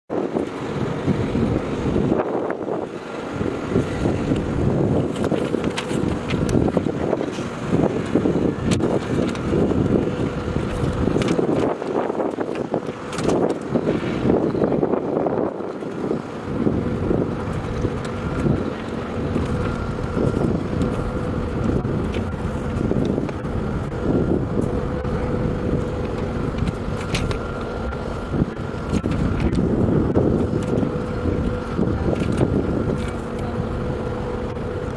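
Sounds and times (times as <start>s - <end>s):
wind buffeting microphone: 0.1s - 34.9s
heavy low rumble: 0.2s - 34.9s.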